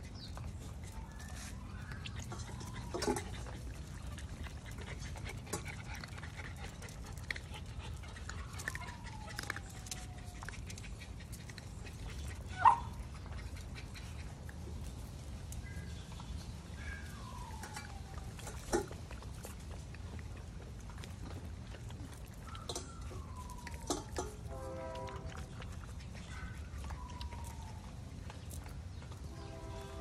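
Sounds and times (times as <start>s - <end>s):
puppies whimpering and yipping: 0.0s - 24.5s, 25.4s - 29.3s.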